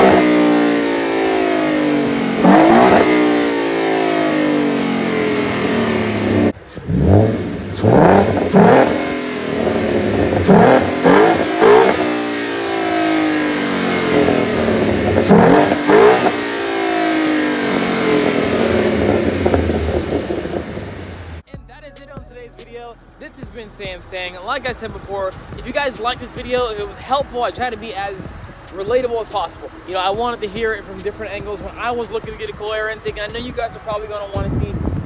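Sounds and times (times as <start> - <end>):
car engine revving: 0.0 - 21.4, 22.1 - 35.0.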